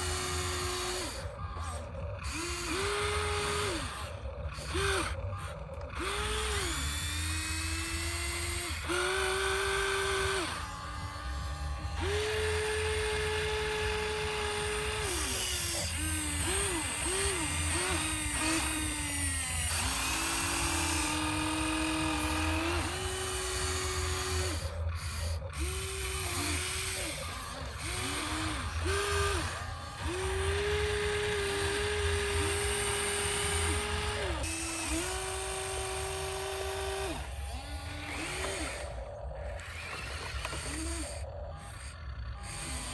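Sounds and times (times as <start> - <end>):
small electric motors whining: 0.0 - 42.9.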